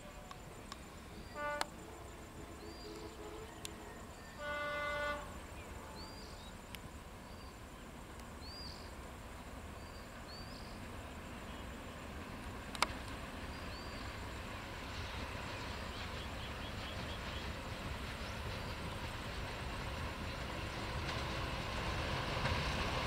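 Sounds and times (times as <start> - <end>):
distant train rumble: 0.0 - 23.0.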